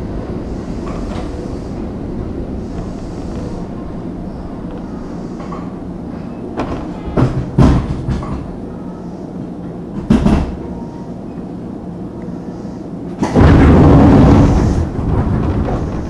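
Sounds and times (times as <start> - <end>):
sliding train doors knocking: 0.0 - 11.1, 13.1 - 16.0
electric train equipment hum: 0.0 - 16.0.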